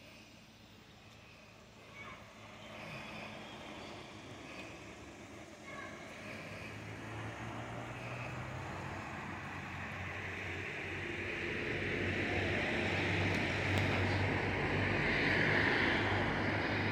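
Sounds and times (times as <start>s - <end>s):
low engine hum: 0.0s - 16.9s.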